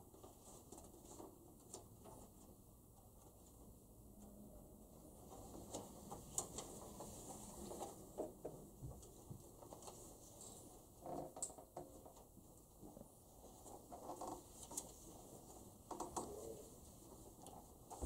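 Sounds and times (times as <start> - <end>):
small clicks taps and rustles: 0.0 - 3.6, 5.2 - 18.0.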